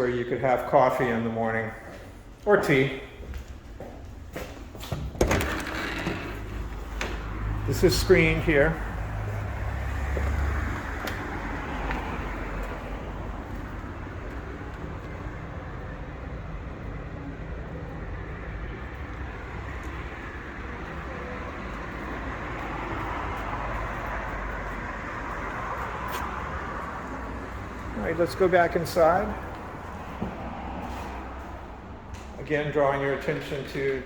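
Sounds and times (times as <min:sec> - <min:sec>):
passing cars rumbling: 0:05.3 - 0:34.0.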